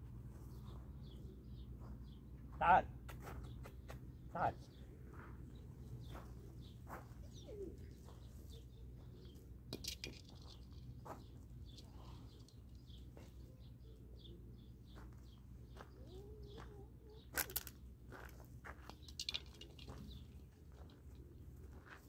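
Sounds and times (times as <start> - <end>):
birds chirping: 0.3 - 22.0.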